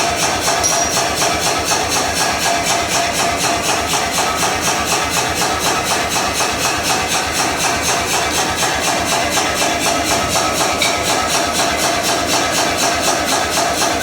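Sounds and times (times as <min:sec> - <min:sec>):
power hammer striking hot steel: 0:00.0 - 0:14.0.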